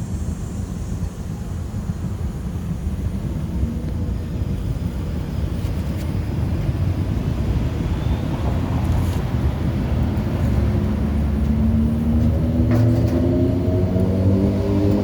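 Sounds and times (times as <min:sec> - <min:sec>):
furnace burner roaring: 0:00.0 - 0:15.0.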